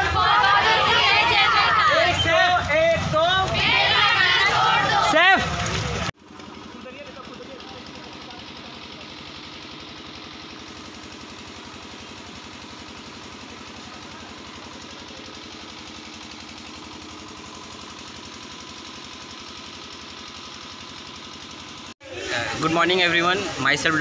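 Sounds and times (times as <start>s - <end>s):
engine idling with pulsing beat: 0.0s - 24.0s.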